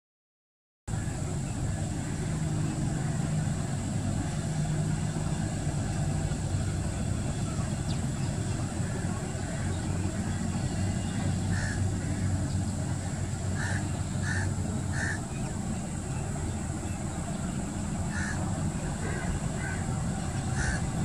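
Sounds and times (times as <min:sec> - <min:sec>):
low droning hum: 0:00.9 - 0:21.0.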